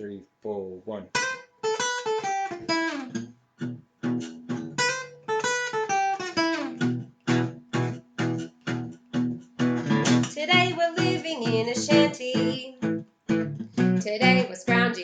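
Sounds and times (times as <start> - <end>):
acoustic guitar strumming chords: 1.2 - 15.0.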